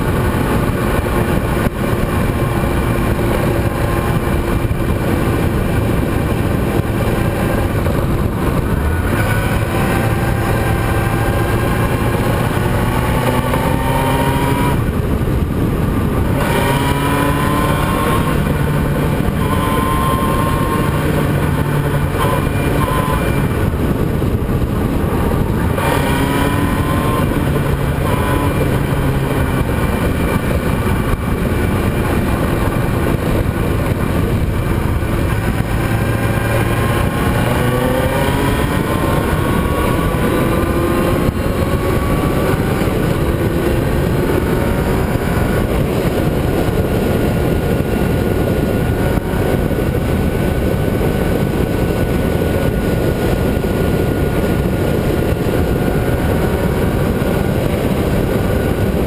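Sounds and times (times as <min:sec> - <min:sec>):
racing engine accelerating: 0:00.0 - 0:59.0
wind and road noise: 0:00.0 - 0:59.0.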